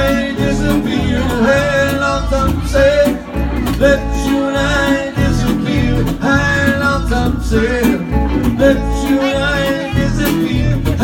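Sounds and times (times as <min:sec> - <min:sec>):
acoustic guitar: 0:00.0 - 0:11.0
man singing: 0:00.0 - 0:11.0.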